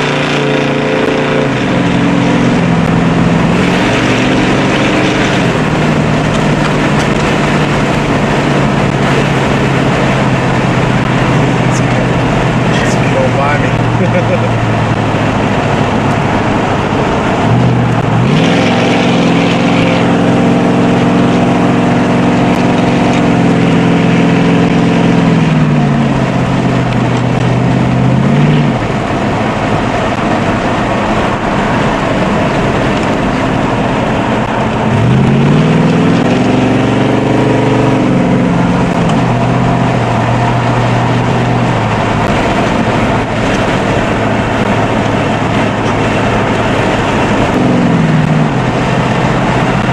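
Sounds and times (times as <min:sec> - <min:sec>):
car engine revving: 0:00.0 - 0:49.9
road and wind noise: 0:00.0 - 0:49.9.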